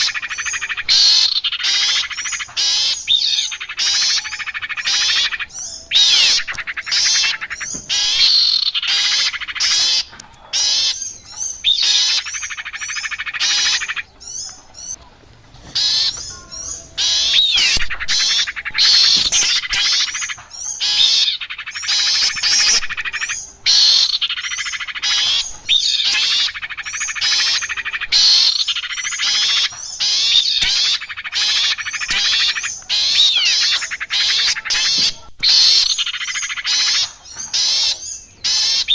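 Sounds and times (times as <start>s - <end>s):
songbirds chattering and squawking: 0.0s - 38.9s.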